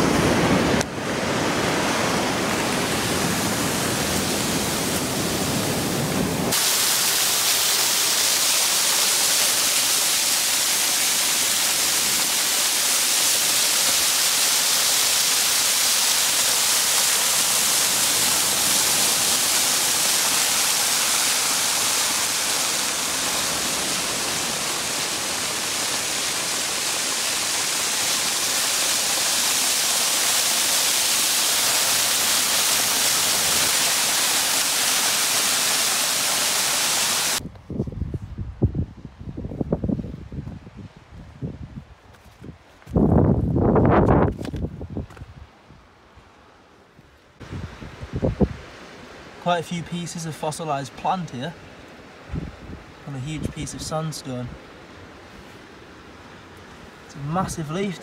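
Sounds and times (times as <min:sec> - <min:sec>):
waterfall rushing: 0:00.0 - 0:37.4, 0:47.5 - 0:58.0.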